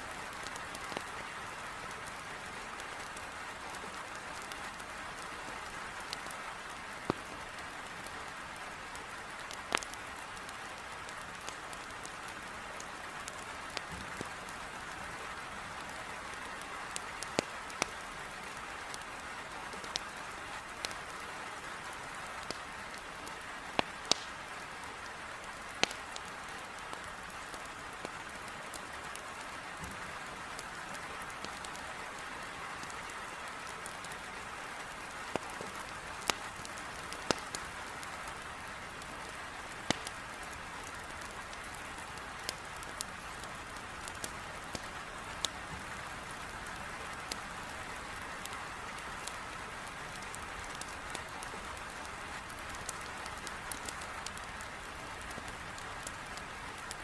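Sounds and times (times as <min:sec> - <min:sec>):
heavy rain on a window: 0:00.0 - 0:57.0
wood fire crackling: 0:00.0 - 0:57.0.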